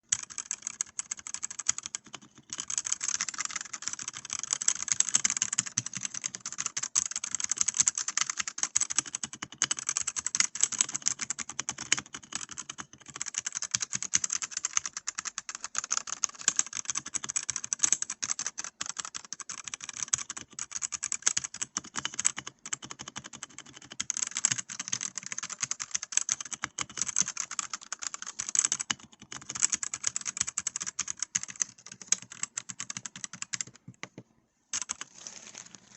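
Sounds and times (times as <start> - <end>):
mechanical keyboard typing: 0.0 - 35.2.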